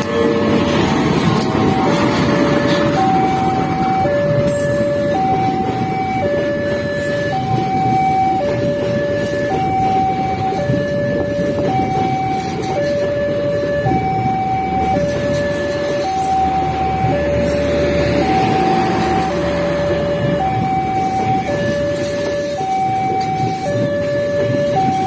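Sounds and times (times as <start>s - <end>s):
level crossing two-tone alarm: 0.0s - 25.0s.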